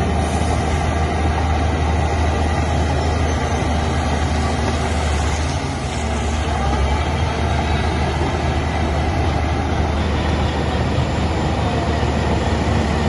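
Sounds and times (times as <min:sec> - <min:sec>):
heavy diesel engine rumbling: 0:00.0 - 0:13.0.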